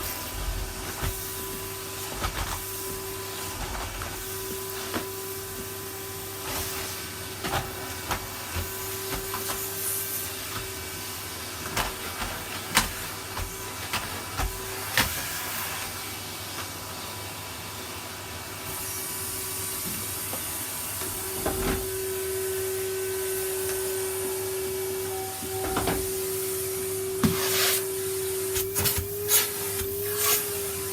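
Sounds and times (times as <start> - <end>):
vacuum cleaner running: 0.0 - 30.9.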